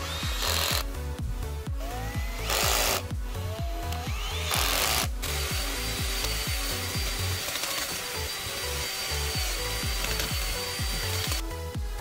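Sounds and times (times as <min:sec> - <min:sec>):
drill motor whine: 0:00.0 - 0:01.0, 0:01.7 - 0:11.8
music with heavy bass beat: 0:00.0 - 0:07.4, 0:09.2 - 0:12.0.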